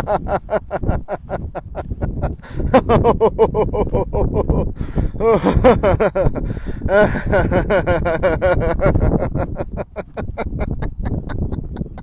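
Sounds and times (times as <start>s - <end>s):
man laughing rhythmically: 0.0s - 12.0s.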